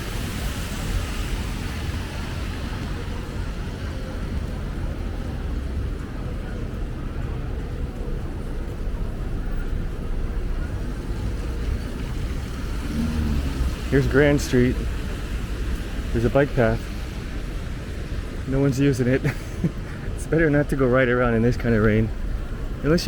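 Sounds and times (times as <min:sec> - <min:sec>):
city street traffic rumble: 0:00.0 - 0:23.0.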